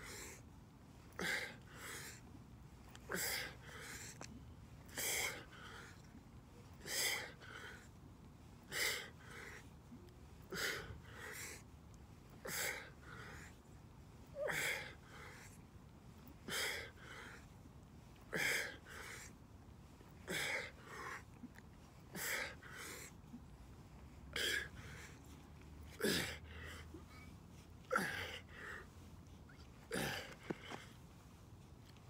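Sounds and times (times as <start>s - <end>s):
man breathing hard: 0.0s - 2.4s, 3.0s - 15.6s, 16.4s - 19.5s, 20.2s - 31.0s.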